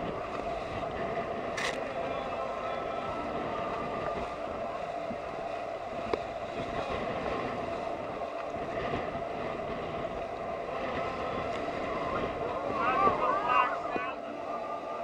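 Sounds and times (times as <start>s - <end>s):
boat engine running: 0.0s - 15.0s
wind on microphone: 0.0s - 15.0s.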